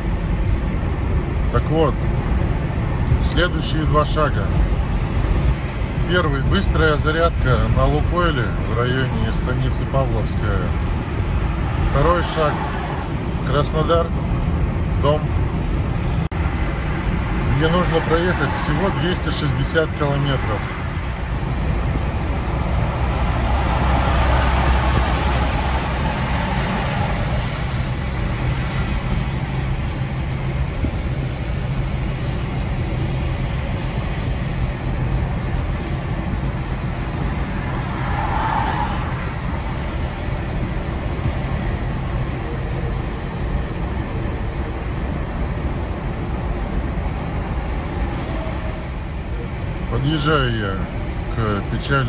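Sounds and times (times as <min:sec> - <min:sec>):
road and tyre noise in car: 0:00.0 - 0:52.0.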